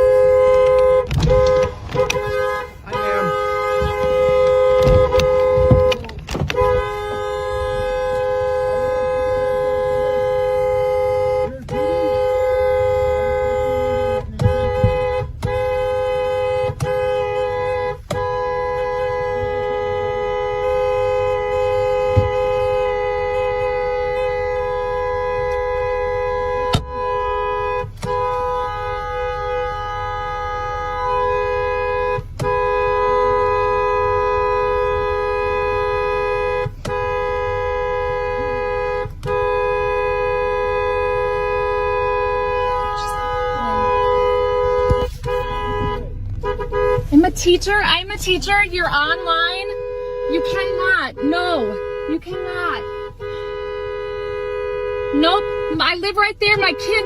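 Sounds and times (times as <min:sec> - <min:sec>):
two-tone car horn blaring: 0:00.0 - 0:57.0.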